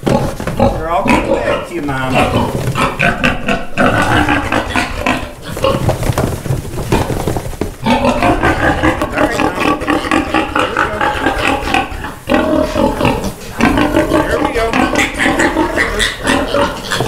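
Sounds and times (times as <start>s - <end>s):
piglets squealing: 0.6s - 5.8s, 7.9s - 17.0s.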